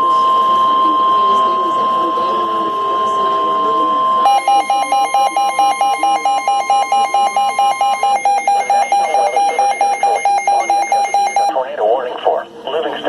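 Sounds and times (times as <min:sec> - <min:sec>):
electronic alarm beeping: 0:00.0 - 0:11.6
steady warning tone: 0:00.0 - 0:13.0.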